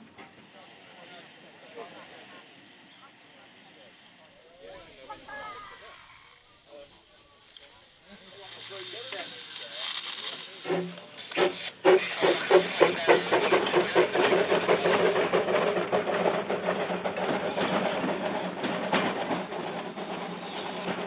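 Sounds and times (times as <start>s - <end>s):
steam hiss: 0.0s - 21.0s
steam locomotive chuffing: 0.0s - 21.0s.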